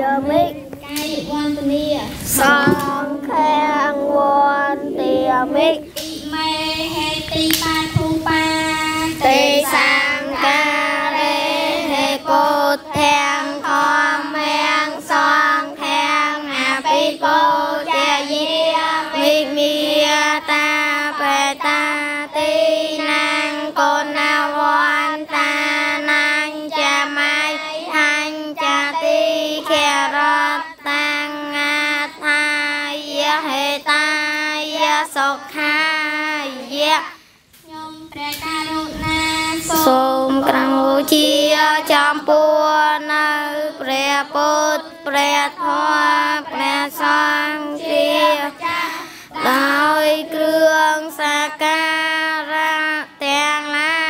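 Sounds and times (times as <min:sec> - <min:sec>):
children chanting in unison: 0:00.0 - 0:54.0.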